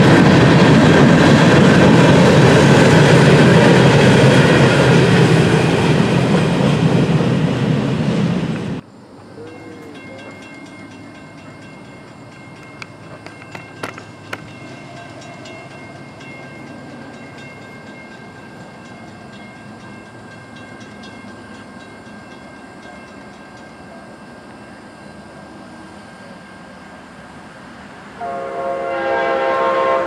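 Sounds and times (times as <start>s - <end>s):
distant train running: 0.0s - 30.0s.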